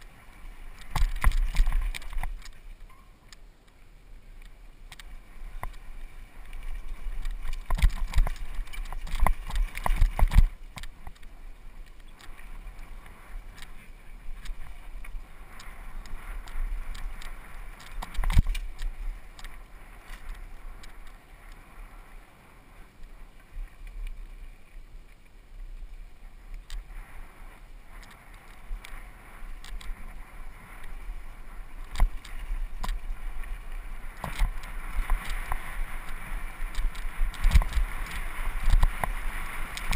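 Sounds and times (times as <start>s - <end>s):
bike rattling: 0.0s - 3.5s, 4.3s - 22.1s, 22.9s - 39.9s
bike tyres on loose dirt: 0.0s - 39.9s
wind rumble on microphone: 0.0s - 39.9s.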